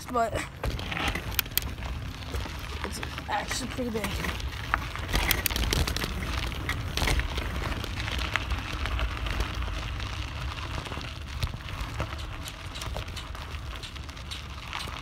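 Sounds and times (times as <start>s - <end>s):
bicycle rolling over dirt: 0.0s - 15.0s.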